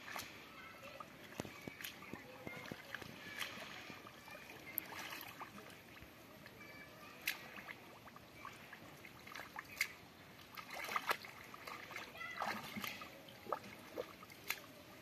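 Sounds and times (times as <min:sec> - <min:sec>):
muddy water sloshing: 0:00.0 - 0:15.0
short splashes: 0:00.0 - 0:15.0.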